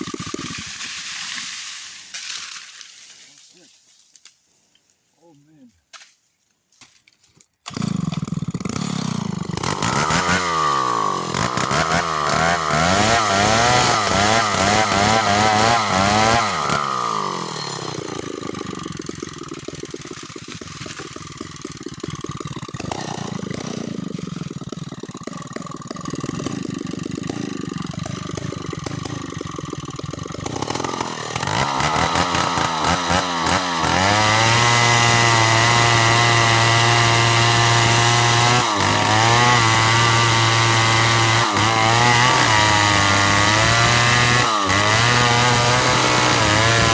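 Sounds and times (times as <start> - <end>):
chainsaw cutting wood: 0.0 - 3.3, 7.5 - 46.9.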